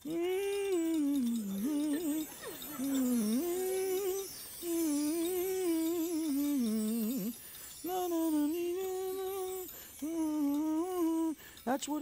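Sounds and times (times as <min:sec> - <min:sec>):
bar chimes shimmering: 0:00.0 - 0:12.0
person humming: 0:00.0 - 0:12.0.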